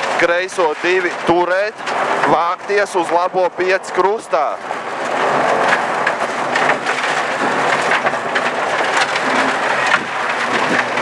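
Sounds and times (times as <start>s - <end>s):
gravel hitting car underside: 0.0s - 11.0s.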